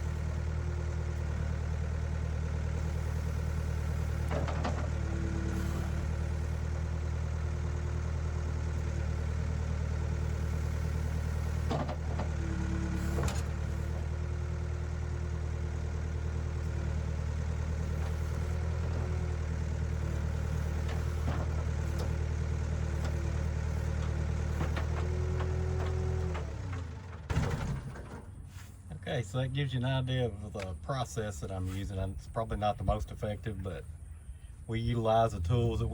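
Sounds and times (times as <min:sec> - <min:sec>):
backhoe engine running: 0:00.0 - 0:35.9.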